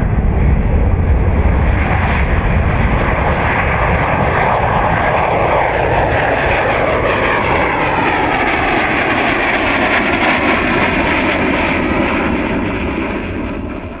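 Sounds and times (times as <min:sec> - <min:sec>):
jet aircraft flypast: 0:00.0 - 0:14.0.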